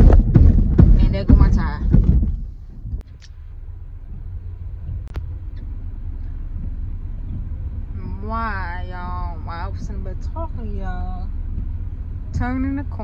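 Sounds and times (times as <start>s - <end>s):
truck cab rumble: 0.0s - 13.0s.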